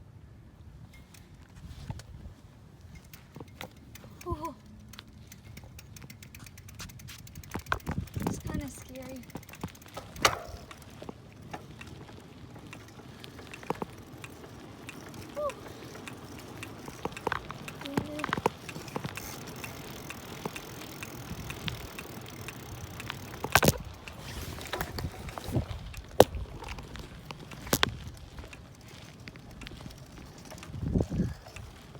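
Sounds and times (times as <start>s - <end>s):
bicycle tyre and road noise: 0.0s - 31.9s
bicycle rattles and knocks: 0.8s - 31.9s.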